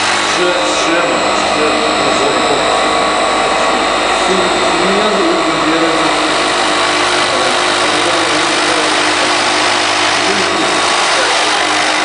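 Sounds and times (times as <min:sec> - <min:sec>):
cnc machine running: 0:00.0 - 0:12.0.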